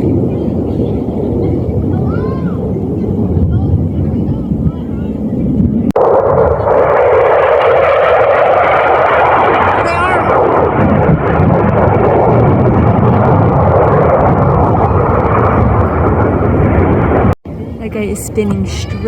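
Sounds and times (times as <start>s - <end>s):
fighter jet engine roar: 0.0s - 18.8s.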